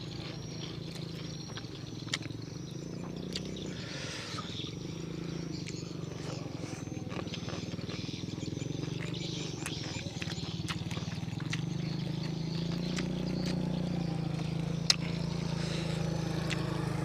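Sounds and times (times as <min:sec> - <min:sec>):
small engine droning: 0:00.0 - 0:17.0
eating clicks: 0:00.1 - 0:17.0.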